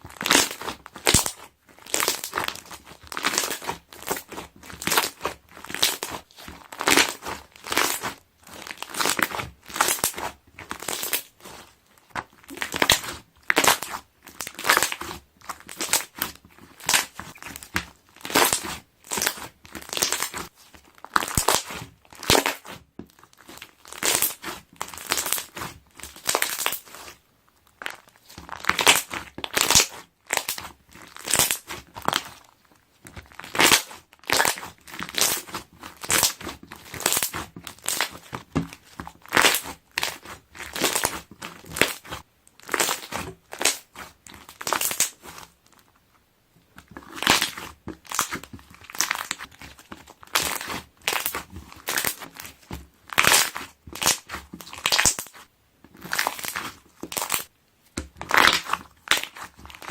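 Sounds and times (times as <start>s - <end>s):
slime bubbles popping and crackling: 0.0s - 32.4s, 33.0s - 45.8s, 46.8s - 59.9s.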